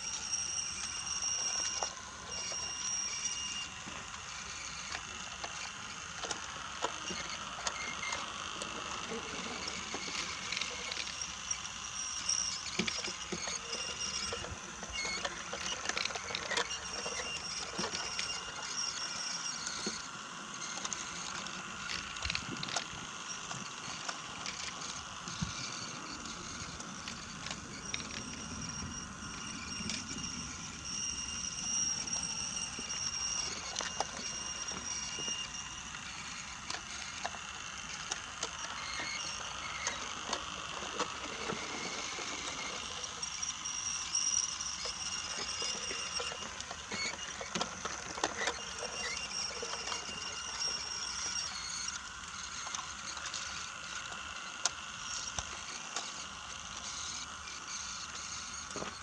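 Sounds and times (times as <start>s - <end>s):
toy train motor whine: 0.0s - 59.0s.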